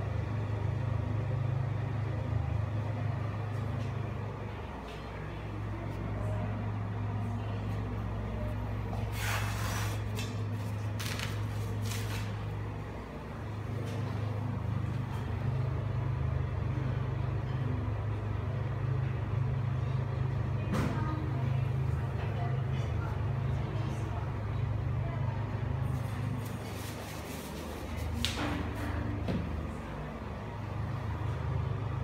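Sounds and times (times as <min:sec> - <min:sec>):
exhaust fan humming: 0:00.0 - 0:32.0.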